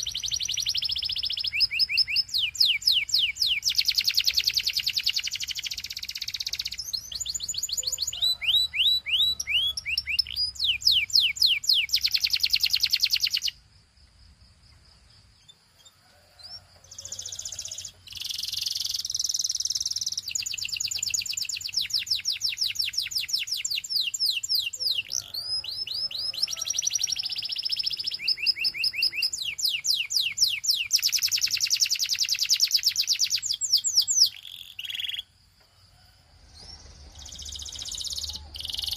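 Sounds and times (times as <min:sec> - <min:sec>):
canary singing trills: 0:00.0 - 0:13.6, 0:15.2 - 0:35.4, 0:36.6 - 0:38.9.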